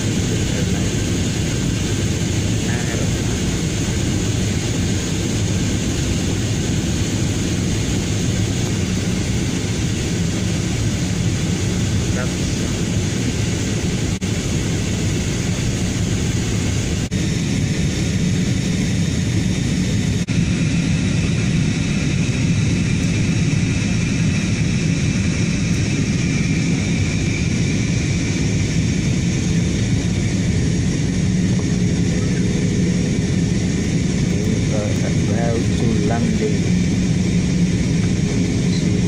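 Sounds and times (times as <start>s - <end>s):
jet airliner cabin roar: 0.0s - 39.0s.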